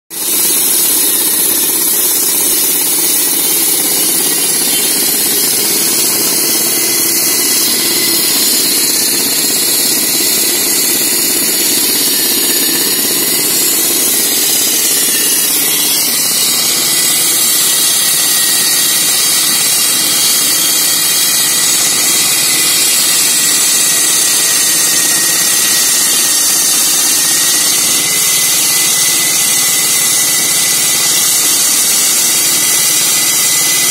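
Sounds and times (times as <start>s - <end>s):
road saw grinding: 0.1s - 33.9s
engine drone: 0.2s - 33.9s.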